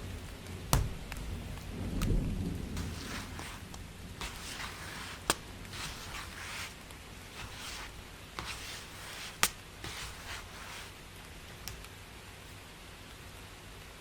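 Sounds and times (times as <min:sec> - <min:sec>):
soft swishing and rustling: 0:00.0 - 0:13.4.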